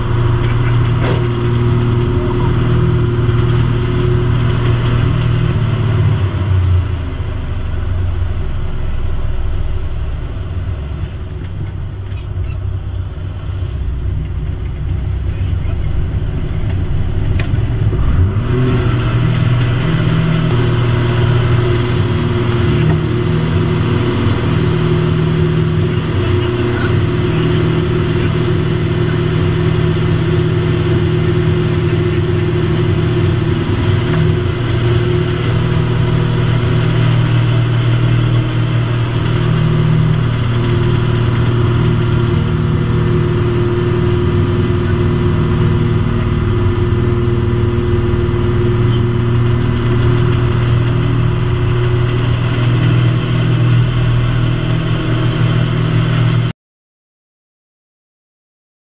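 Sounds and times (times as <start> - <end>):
aircraft engine and propeller: 0.0 - 56.5.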